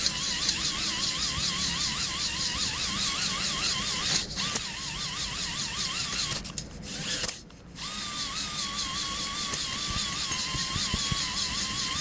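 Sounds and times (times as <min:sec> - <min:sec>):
power drill motor whine: 0:00.0 - 0:12.0.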